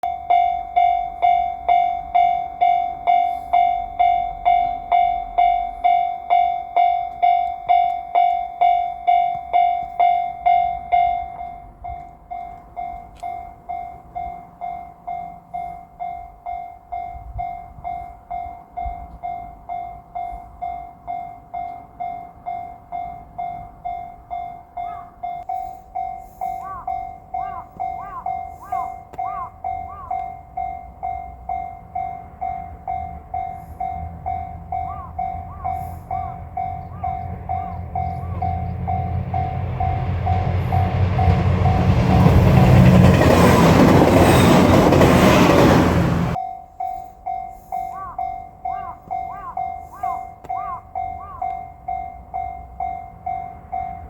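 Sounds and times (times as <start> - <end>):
level crossing warning bell: 0.0 - 54.0.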